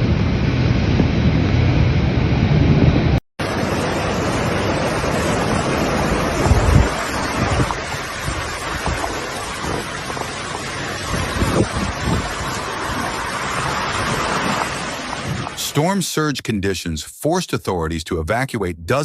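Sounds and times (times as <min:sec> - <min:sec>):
wind buffeting microphone: 0:00.0 - 0:15.6
storm waves breaking: 0:00.0 - 0:19.0.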